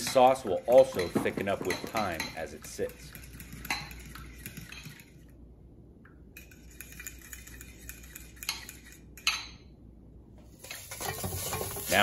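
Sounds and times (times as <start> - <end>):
utensil stirring sauce in glass bowl: 0.0 - 5.4, 6.3 - 9.6, 10.6 - 12.0.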